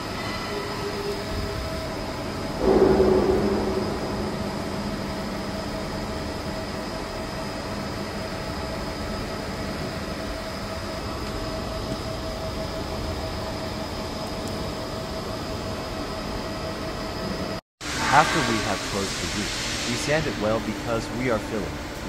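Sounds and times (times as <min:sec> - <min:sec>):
mechanical hum with whine: 0:00.0 - 0:22.0.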